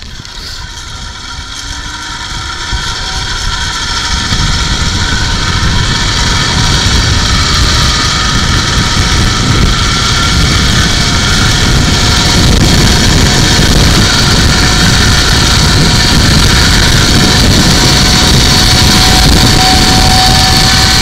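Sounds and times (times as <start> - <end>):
wind on microphone: 0.0 - 21.0
zipline trolley on cable: 0.0 - 21.0.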